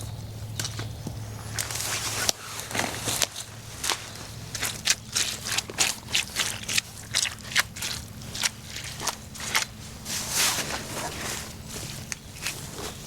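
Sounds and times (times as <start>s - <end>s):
footsteps crunching on twigs: 0.5s - 13.0s.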